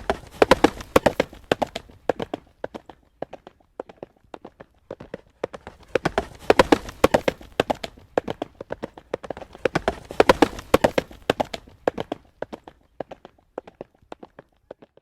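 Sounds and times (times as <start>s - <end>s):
horse hooves trotting on road: 0.0s - 15.0s.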